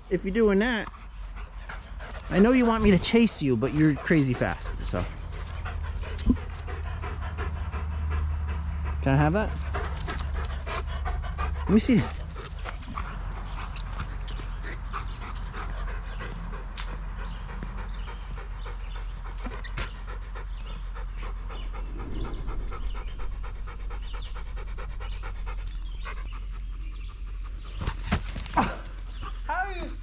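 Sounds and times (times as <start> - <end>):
dog panting: 0.0 - 30.0.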